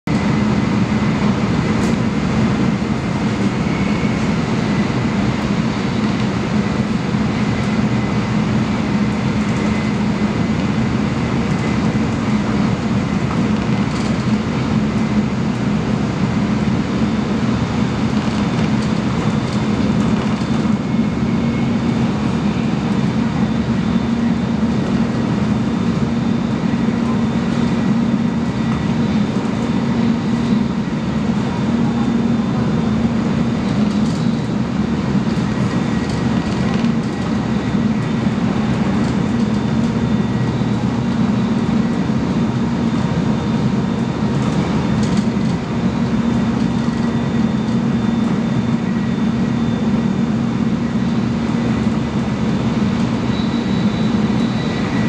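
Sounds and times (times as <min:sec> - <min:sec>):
train rumble from inside: 0:00.0 - 0:55.0.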